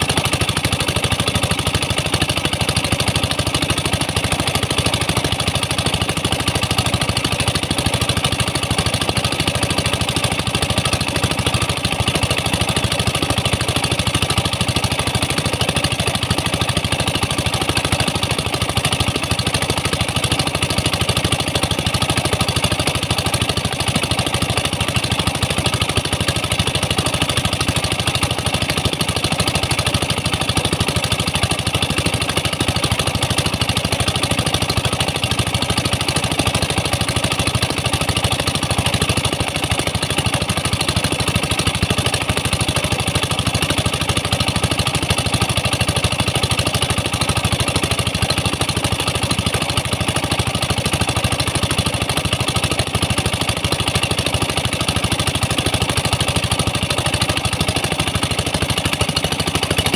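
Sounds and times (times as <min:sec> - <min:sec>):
water pump engine running: 0:00.0 - 0:59.9.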